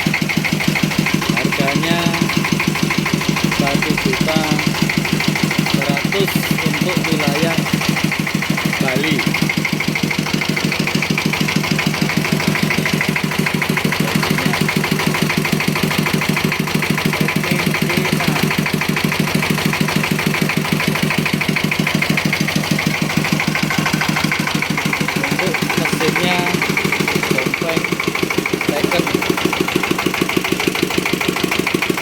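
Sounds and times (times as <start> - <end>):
single-cylinder diesel engine running: 0.0 - 32.0.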